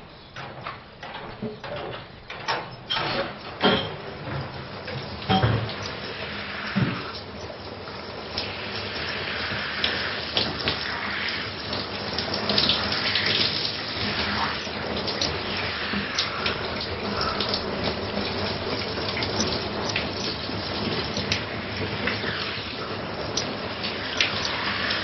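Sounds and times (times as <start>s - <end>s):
shower water spraying: 3.3s - 25.0s
water dripping: 3.4s - 25.0s.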